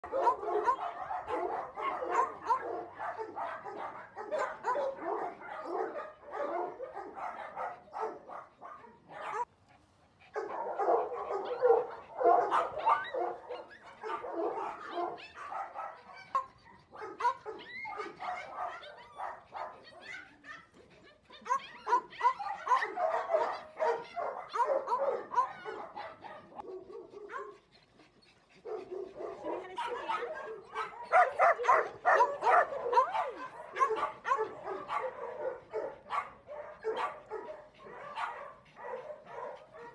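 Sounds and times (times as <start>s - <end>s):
small dogs barking and yipping: 0.0s - 39.9s.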